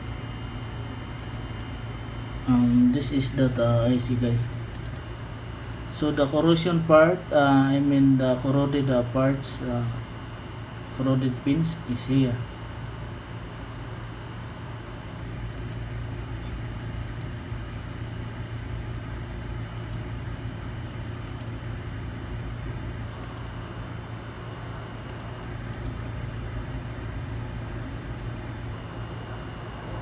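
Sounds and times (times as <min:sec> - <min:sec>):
machinery humming: 0:00.0 - 0:12.6, 0:15.6 - 0:30.0.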